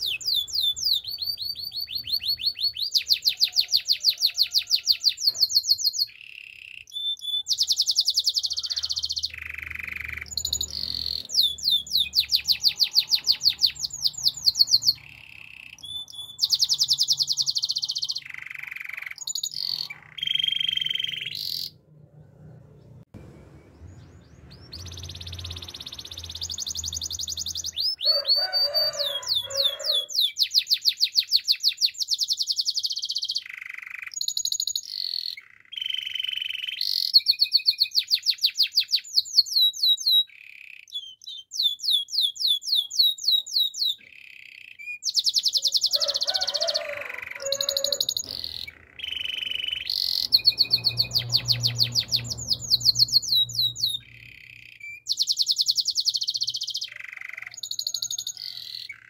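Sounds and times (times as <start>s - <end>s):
canary singing trills: 0.0s - 23.0s, 23.6s - 59.0s.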